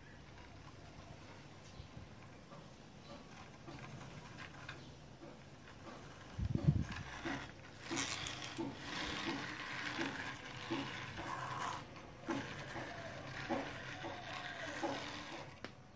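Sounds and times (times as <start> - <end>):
toy wheels rattling on tiles: 0.0 - 15.6.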